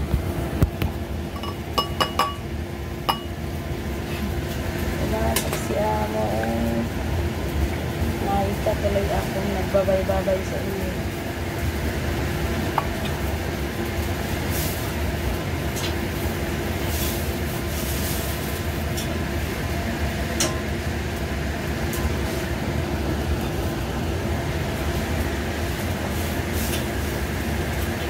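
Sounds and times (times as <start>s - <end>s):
range hood fans humming: 0.0s - 28.0s.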